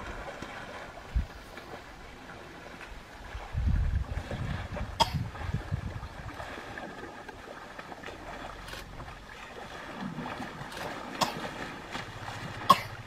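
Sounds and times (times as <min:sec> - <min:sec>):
wind rumbling on microphone: 0:00.0 - 0:11.0
elephant splashing in water: 0:00.0 - 0:13.0.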